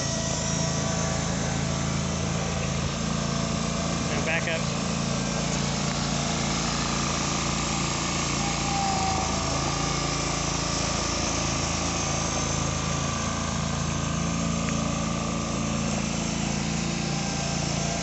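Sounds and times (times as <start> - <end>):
garden tractor engine running: 0.0 - 18.0
high whine: 0.0 - 18.0.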